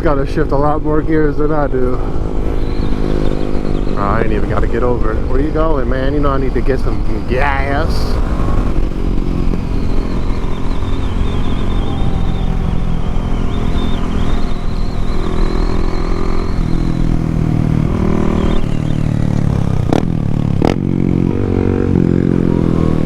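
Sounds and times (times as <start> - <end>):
low rush: 0.0 - 23.0
motorcycle engine revving: 0.0 - 23.0.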